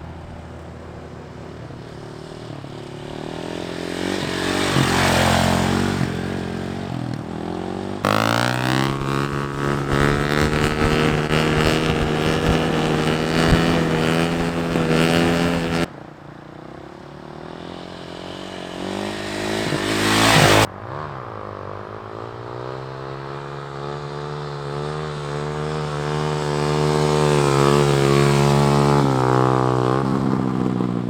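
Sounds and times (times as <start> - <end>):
dirt bike passing: 0.0 - 31.0
dirt bike engine at high revs: 1.8 - 15.9, 17.0 - 21.1, 22.1 - 31.0.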